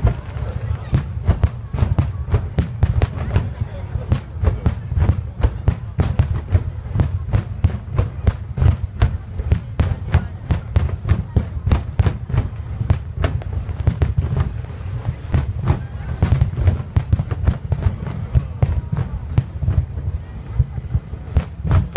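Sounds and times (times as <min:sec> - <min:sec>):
deep rumble of booms: 0:00.0 - 0:21.9
firework bangs and crackles: 0:00.0 - 0:21.9.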